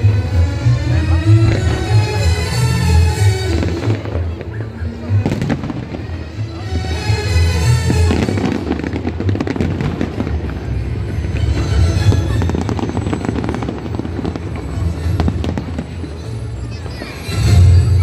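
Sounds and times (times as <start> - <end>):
fireworks bursting and crackling: 0.0 - 18.0
music playing: 0.0 - 18.0.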